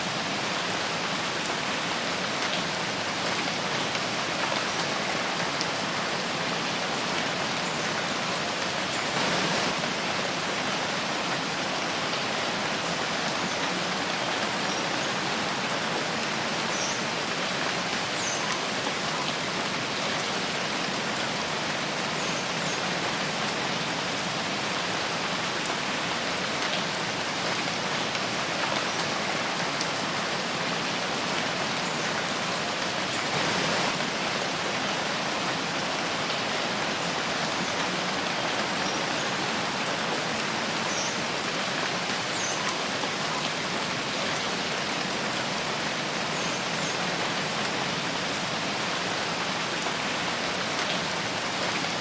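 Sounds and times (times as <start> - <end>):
rain hissing in a forest: 0.0 - 52.0.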